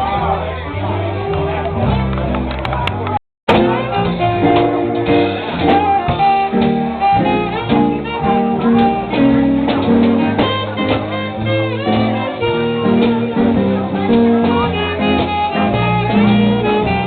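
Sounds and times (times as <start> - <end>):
live band playing bluesy tune: 0.0 - 17.0.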